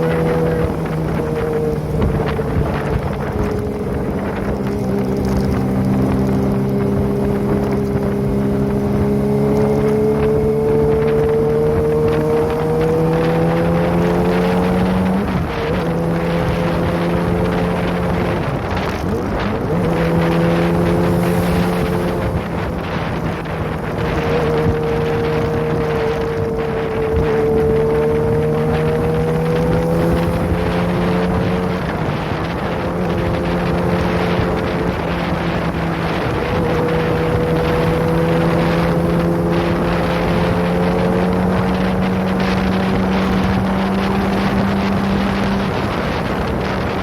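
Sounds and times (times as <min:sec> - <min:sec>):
motorcycle engine cruising: 0:00.0 - 0:47.0
wind on microphone: 0:00.0 - 0:47.0.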